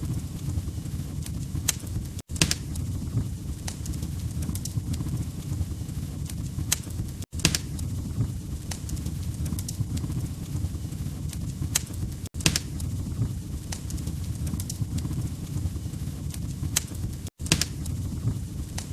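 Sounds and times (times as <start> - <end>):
log fire crackling: 0.0 - 18.9
low rumble of flames: 0.0 - 18.9.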